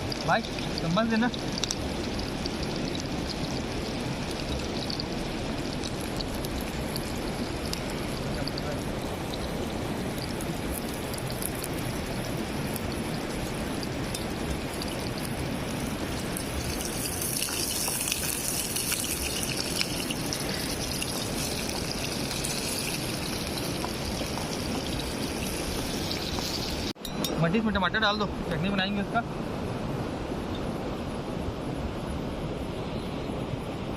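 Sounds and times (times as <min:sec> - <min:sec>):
river water flowing: 0:00.0 - 0:27.4.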